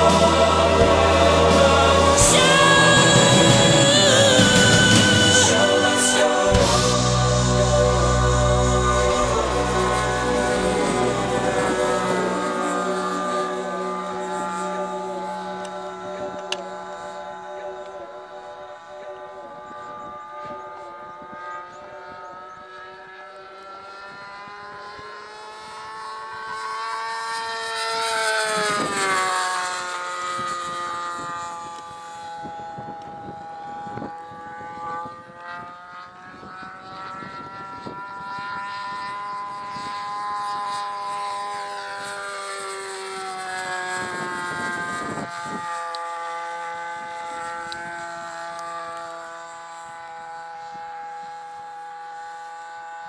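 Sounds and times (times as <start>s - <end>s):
model jet engine buzzing: 0.0s - 53.0s.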